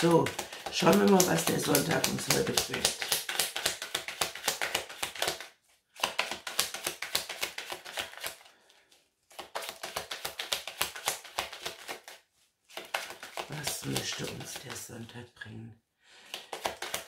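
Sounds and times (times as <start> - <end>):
cards being shuffled: 0.0 - 15.1, 16.2 - 17.0.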